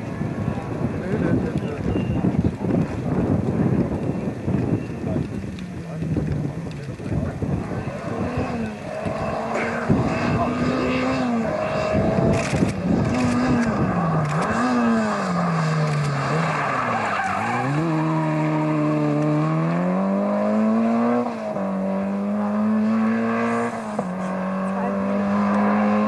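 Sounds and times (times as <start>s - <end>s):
rally car engine revving: 4.8s - 26.0s.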